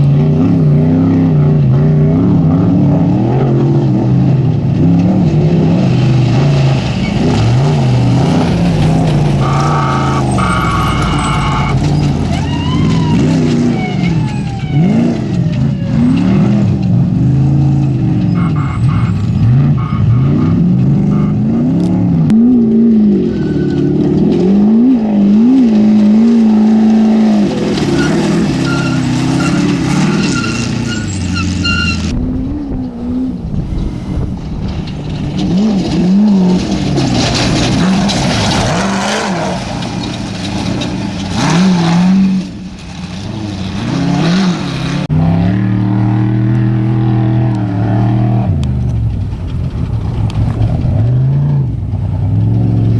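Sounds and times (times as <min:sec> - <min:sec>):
race vehicle engines revving: 0:00.0 - 0:52.9.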